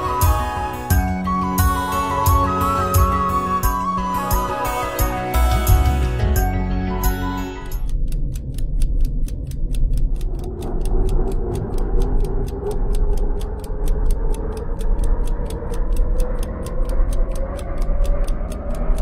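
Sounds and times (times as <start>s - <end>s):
rising held tone: 0.0s - 7.9s, 10.2s - 19.0s
deep bass: 0.0s - 19.0s
fast ticking beat: 0.0s - 19.0s.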